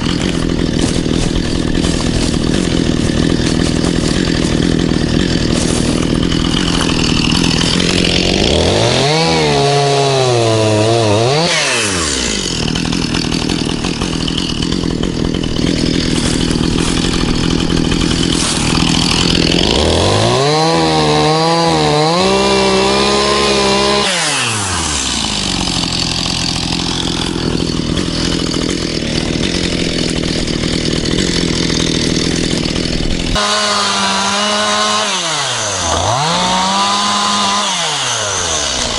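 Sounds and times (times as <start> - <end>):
chainsaw cutting: 0.0 - 38.9.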